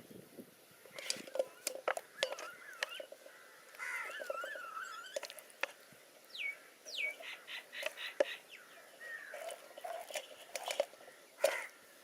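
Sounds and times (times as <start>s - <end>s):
birds calling: 0.8s - 12.0s.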